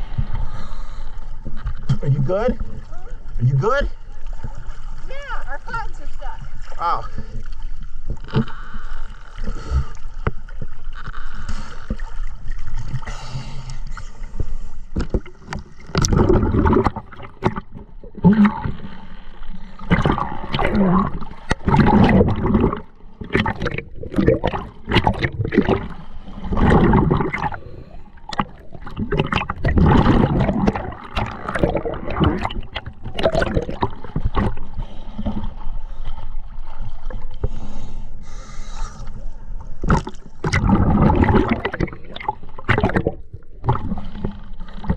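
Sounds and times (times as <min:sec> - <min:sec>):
water gurgling and bubbling: 0:00.0 - 0:37.6, 0:39.7 - 0:44.9.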